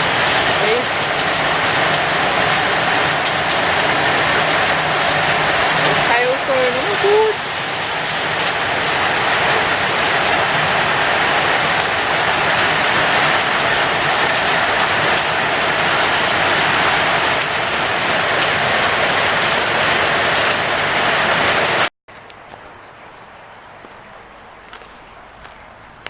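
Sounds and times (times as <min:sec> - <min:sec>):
hail pelting down: 0:00.0 - 0:21.9.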